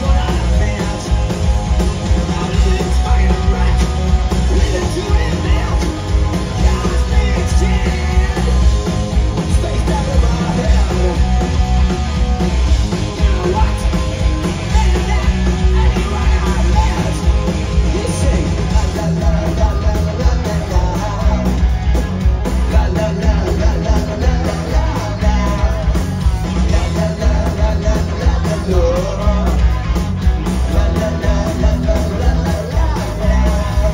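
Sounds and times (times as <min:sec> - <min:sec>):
man singing: 0:00.0 - 0:11.6, 0:13.2 - 0:21.8, 0:22.4 - 0:29.8, 0:30.4 - 0:33.9
punk rock band playing: 0:00.0 - 0:33.9.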